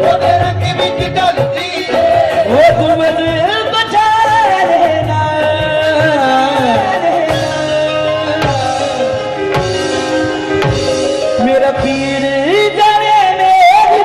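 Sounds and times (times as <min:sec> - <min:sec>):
man singing devotional song: 0:00.0 - 0:09.6, 0:11.3 - 0:14.0
dholak drum strokes: 0:00.0 - 0:13.1
musical accompaniment: 0:00.0 - 0:14.0.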